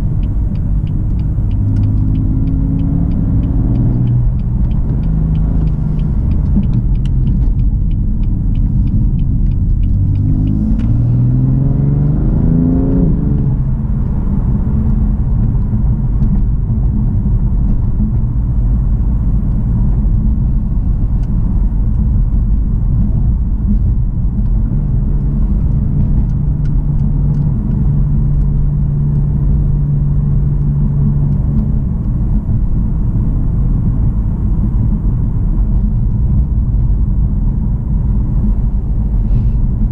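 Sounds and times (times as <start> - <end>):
car engine accelerating: 0.0 - 39.9
low road rumble: 0.0 - 39.9.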